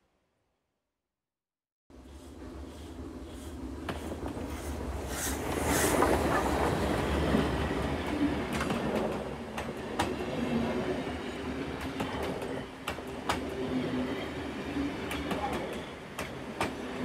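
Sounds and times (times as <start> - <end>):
steam train rumbling along track: 1.9 - 17.0.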